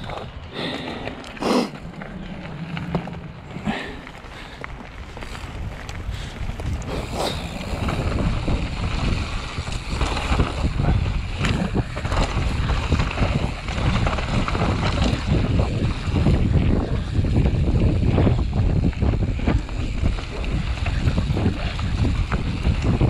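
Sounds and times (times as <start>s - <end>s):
low rumble: 0.0s - 23.0s
wind buffeting microphone: 0.0s - 23.0s
bicycle knocks and rattles: 4.5s - 23.0s.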